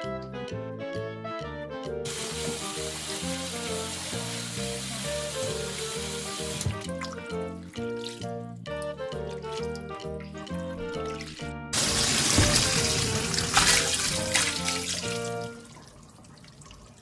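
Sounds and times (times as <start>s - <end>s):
background music: 0.0s - 16.0s
water running from a tap: 2.1s - 17.0s.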